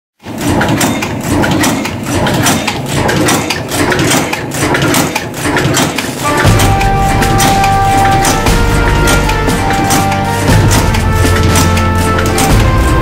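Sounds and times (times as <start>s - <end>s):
forging machine metal strikes: 0.2s - 13.0s
mechanical hum: 0.2s - 13.0s.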